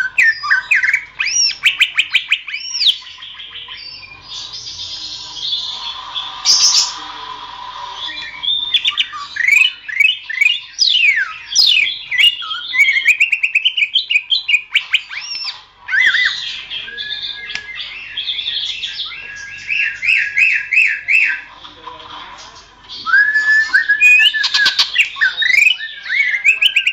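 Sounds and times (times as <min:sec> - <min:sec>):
bird singing whistled chirps: 0:00.0 - 0:05.9, 0:08.1 - 0:21.5, 0:23.0 - 0:26.9.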